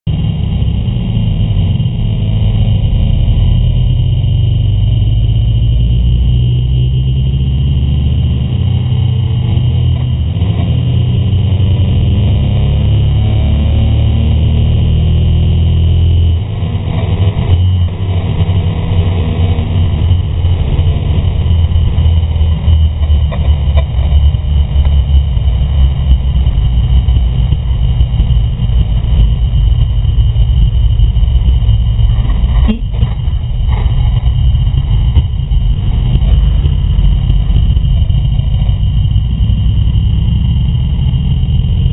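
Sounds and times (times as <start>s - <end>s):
wind rumble on microphone: 0.0s - 41.9s
motorcycle engines accelerating: 0.1s - 41.9s.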